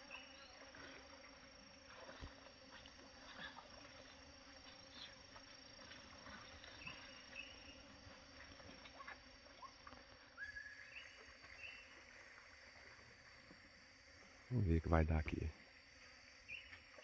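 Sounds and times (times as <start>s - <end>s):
faint insect hum: 0.0s - 17.0s.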